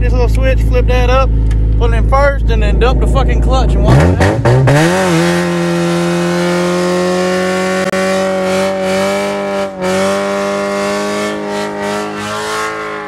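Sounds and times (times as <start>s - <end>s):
engine at high revs: 2.5s - 13.0s.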